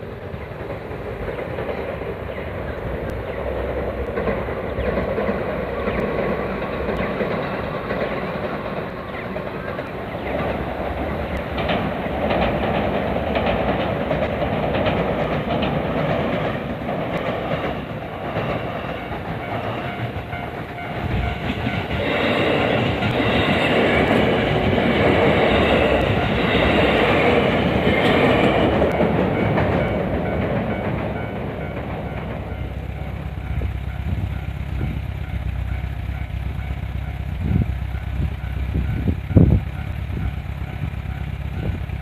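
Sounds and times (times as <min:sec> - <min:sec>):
electric train passing: 0:00.0 - 0:42.0
wheels clicking over rail joints: 0:00.0 - 0:42.0.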